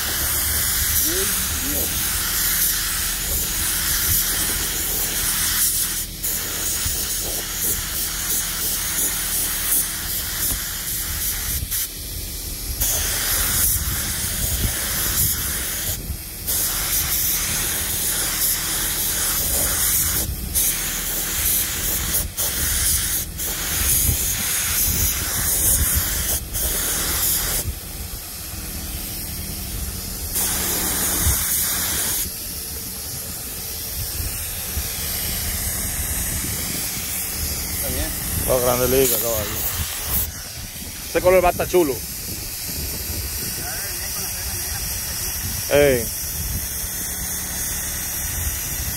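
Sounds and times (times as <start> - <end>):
paint spray gun hissing: 0.0 - 48.9.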